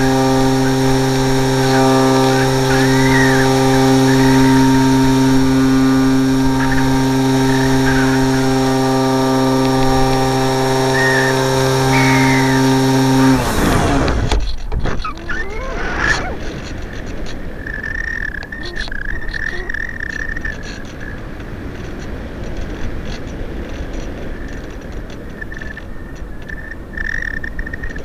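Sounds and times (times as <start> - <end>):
electric motor and propeller: 0.0 - 28.0.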